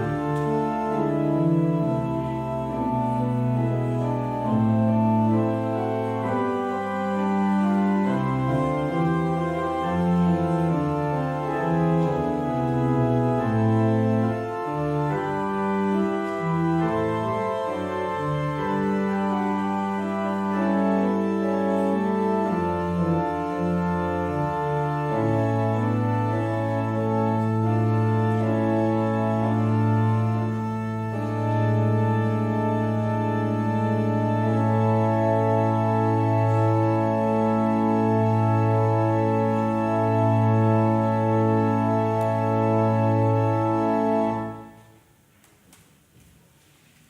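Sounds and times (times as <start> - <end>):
organ playing slow chords: 0.0 - 45.0.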